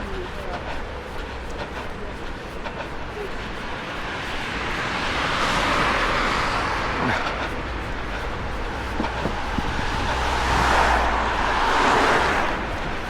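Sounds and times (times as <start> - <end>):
cars passing: 0.0 - 13.0
wind rumble on microphone: 0.0 - 13.0.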